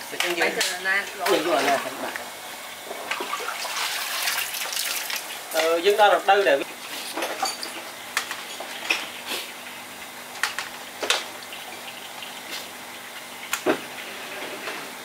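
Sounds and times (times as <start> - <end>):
water rushing in tanks: 1.2 - 6.8, 8.6 - 15.0.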